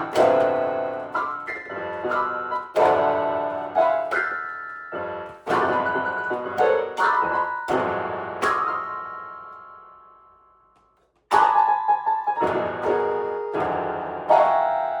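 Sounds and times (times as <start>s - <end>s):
piano chords ringing: 0.0s - 10.6s, 11.3s - 15.0s.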